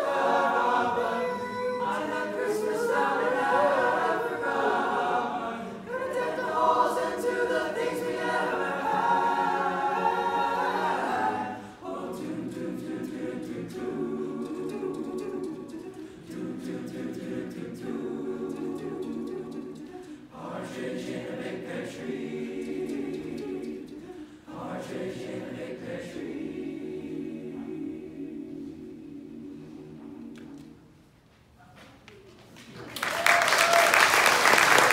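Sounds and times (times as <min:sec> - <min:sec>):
boys' choir singing: 0:00.0 - 0:31.0.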